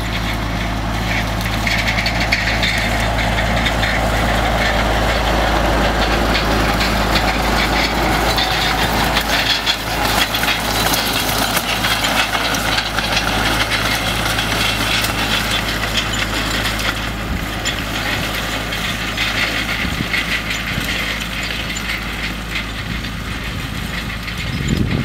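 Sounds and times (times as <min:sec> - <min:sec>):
hay rake tines clattering: 0:00.0 - 0:25.0
tractor diesel engine running: 0:00.0 - 0:25.0.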